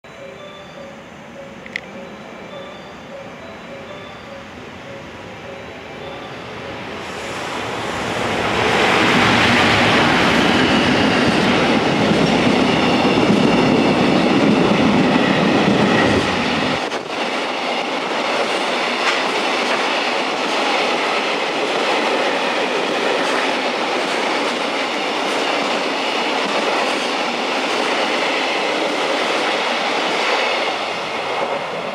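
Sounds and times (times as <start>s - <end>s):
locomotives passing: 1.0s - 31.9s.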